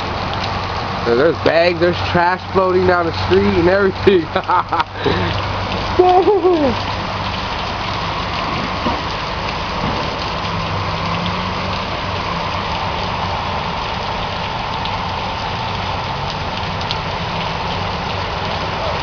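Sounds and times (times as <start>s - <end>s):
heavy rain on a flooded street: 0.0s - 19.0s.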